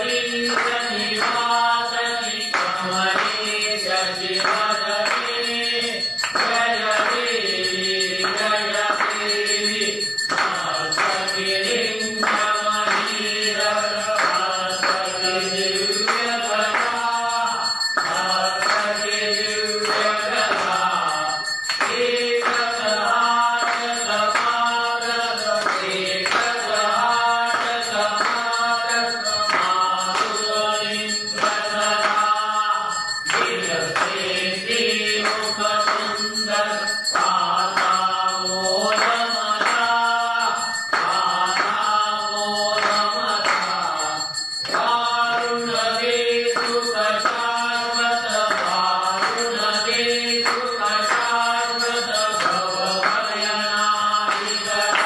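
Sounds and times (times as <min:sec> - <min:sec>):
devotional chant singing: 0:00.0 - 0:55.0.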